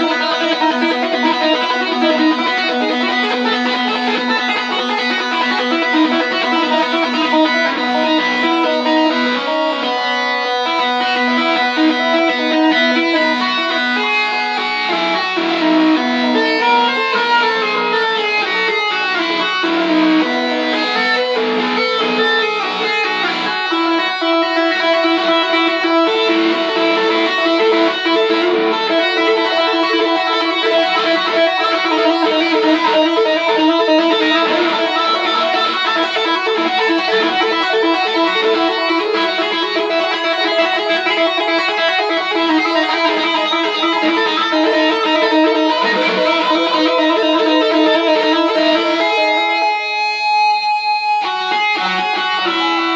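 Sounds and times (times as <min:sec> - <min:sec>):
electric guitar with echo: 0:00.0 - 0:52.9.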